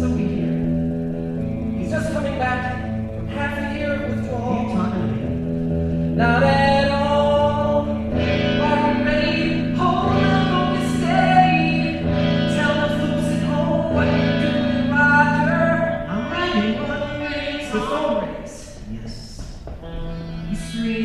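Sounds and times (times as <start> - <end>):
band sustained chord: 0.0 - 19.0.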